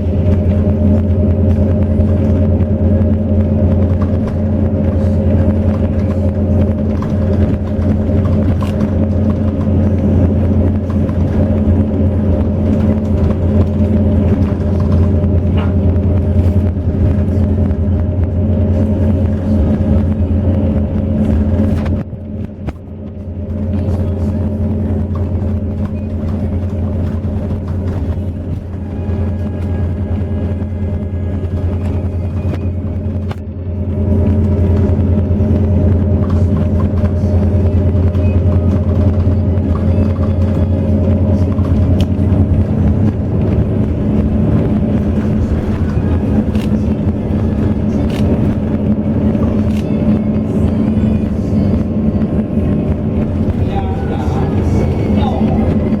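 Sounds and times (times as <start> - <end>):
bus engine running: 0.0 - 56.0
road rumble: 0.0 - 56.0.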